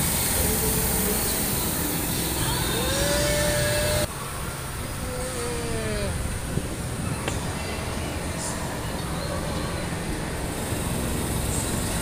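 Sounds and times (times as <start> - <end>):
rushing air on spinning ride: 0.0 - 12.0.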